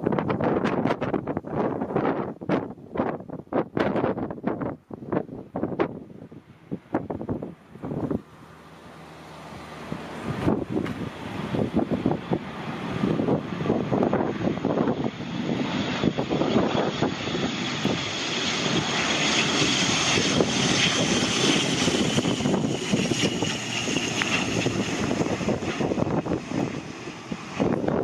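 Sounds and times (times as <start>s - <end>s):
turboprop plane droning: 0.0s - 28.0s
wind buffeting microphone: 0.0s - 28.0s.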